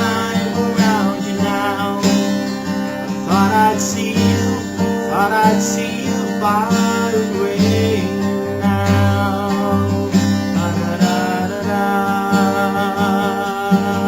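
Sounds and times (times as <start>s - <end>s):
strummed acoustic guitar chords: 0.0s - 14.0s.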